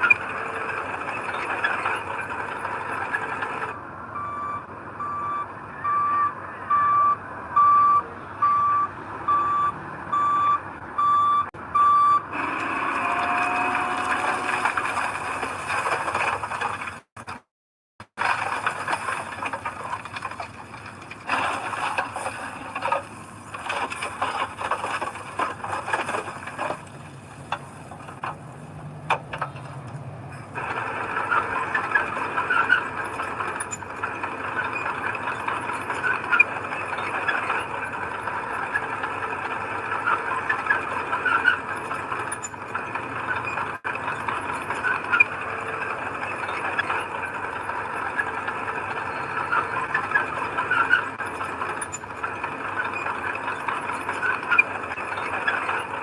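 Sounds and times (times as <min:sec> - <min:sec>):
steel tracks squeaking: 0:00.0 - 0:03.8, 0:12.3 - 0:17.4, 0:18.2 - 0:56.0
bulldozer metallic clanking: 0:00.0 - 0:17.4, 0:18.1 - 0:56.0.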